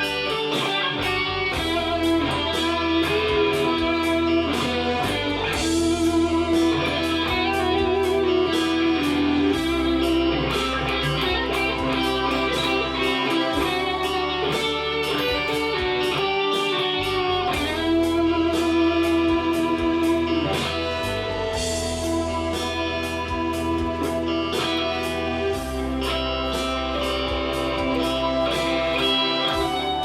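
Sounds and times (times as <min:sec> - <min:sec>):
backing track drums and bass: 0:00.0 - 0:30.0
electric guitar lead: 0:00.0 - 0:30.0.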